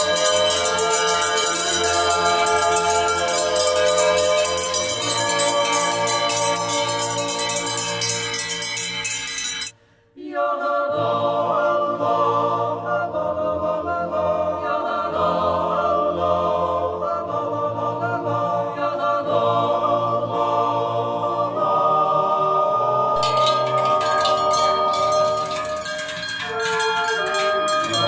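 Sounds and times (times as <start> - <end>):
choir singing unaccompanied: 0.0 - 9.6, 10.2 - 28.0.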